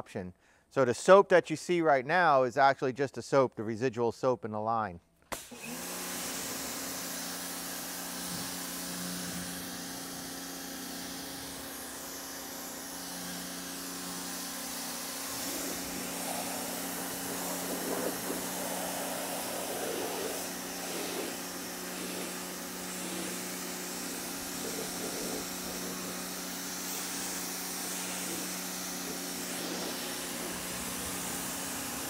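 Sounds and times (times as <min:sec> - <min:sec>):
pressure washer pump hum: 0:05.3 - 0:32.0
water spray hissing on car: 0:06.0 - 0:32.0.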